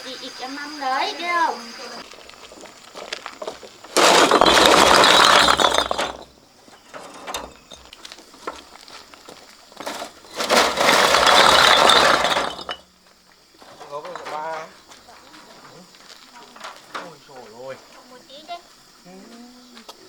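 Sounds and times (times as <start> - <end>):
sand and gravel rattling: 1.6 - 18.6.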